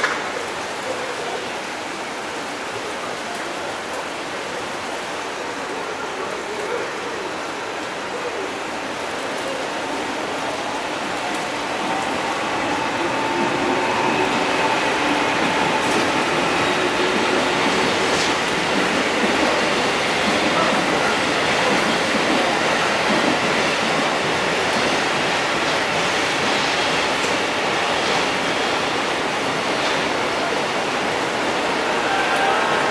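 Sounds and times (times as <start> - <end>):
rain hissing: 0.2 - 32.9
train rolling slowly: 4.6 - 32.9.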